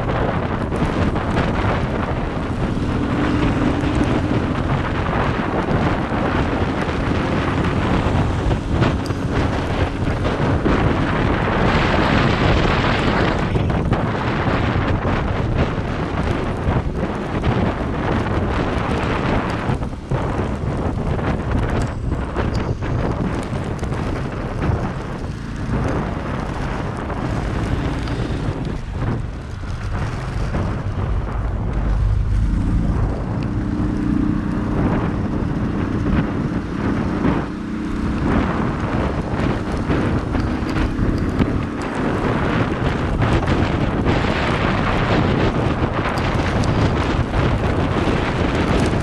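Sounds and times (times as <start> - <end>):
low engine hum: 0.0 - 49.0
rain: 0.0 - 49.0
wind buffeting microphone: 0.0 - 49.0.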